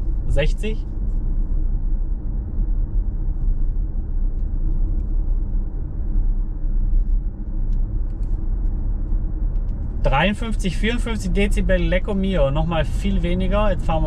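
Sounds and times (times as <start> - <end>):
tyre and road noise in car cabin: 0.0 - 14.0.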